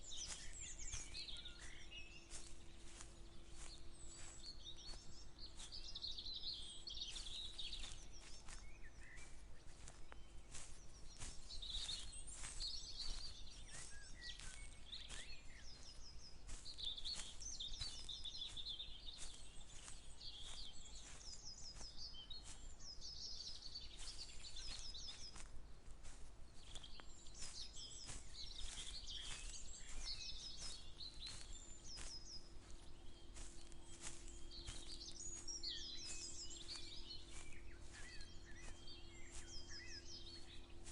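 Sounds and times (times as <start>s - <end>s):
birds singing and chirping: 0.0s - 40.9s
footsteps through vegetation: 0.0s - 40.9s.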